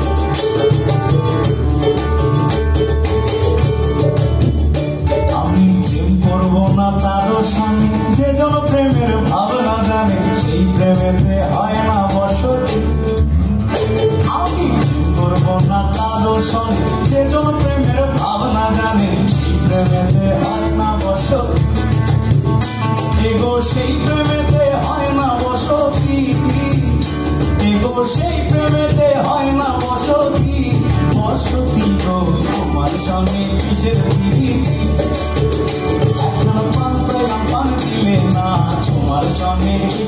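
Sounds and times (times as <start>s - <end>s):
acoustic guitars: 0.0s - 40.0s
cajon drum: 0.0s - 40.0s
shaker rattling: 0.0s - 40.0s.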